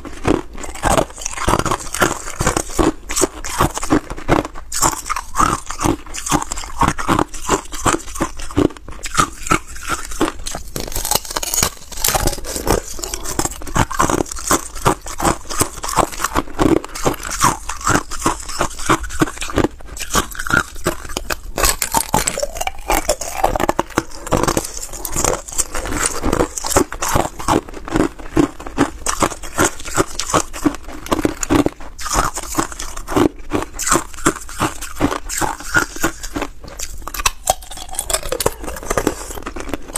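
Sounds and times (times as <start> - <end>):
ice cubes crunched between teeth: 0.0 - 39.9.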